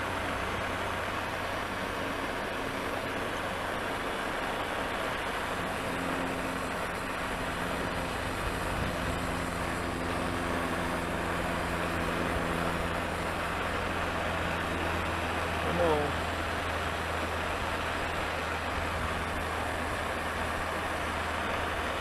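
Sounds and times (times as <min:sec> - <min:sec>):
machine hum with hiss: 0:00.0 - 0:22.0.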